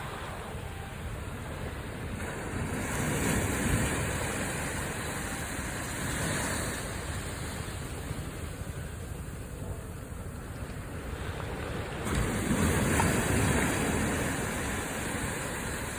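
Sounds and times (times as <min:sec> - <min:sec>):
small waves washing on a beach: 0:00.0 - 0:15.9.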